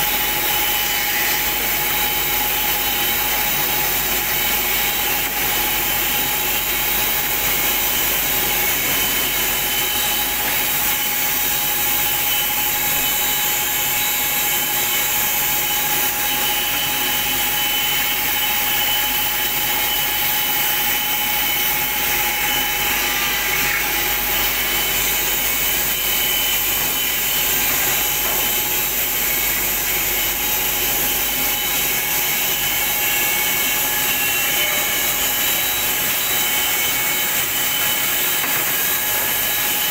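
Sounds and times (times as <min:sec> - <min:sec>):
planer machine whining: 0:00.0 - 0:39.9.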